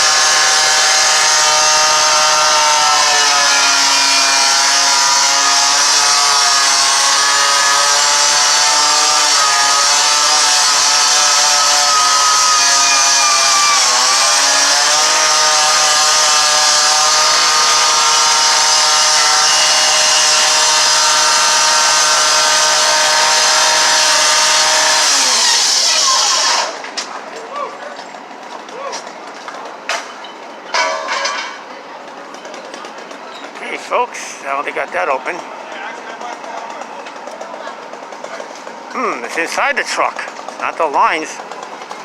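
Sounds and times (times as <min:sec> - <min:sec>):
power saw running at high revs: 0:00.0 - 0:27.2, 0:32.5 - 0:42.0.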